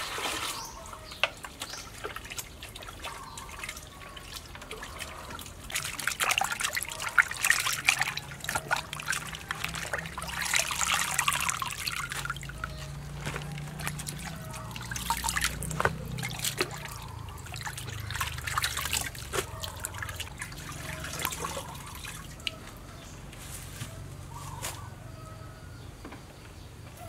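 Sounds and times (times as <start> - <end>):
small drips and splashes: 0.0 - 23.1
water trickling and dripping: 0.0 - 23.1.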